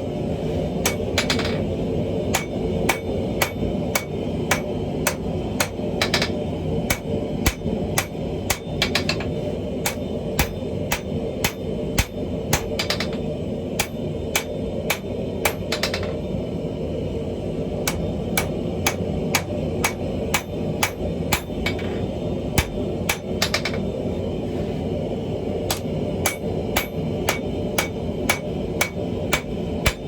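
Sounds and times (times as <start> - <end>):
continuous low rumble: 0.0 - 30.0
hammer striking steel on anvil: 0.8 - 1.7, 2.3 - 16.3, 17.8 - 23.9, 25.7 - 30.0.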